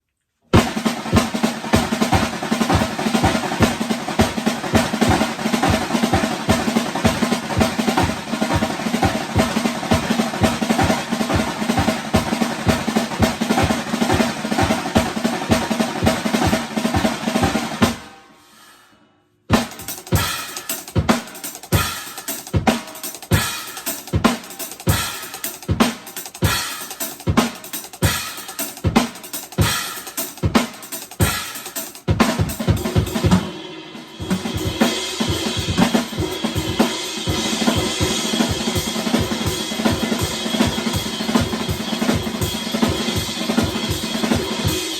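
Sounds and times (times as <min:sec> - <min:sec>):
drum kit playing: 0:00.6 - 0:18.1, 0:19.5 - 0:44.9.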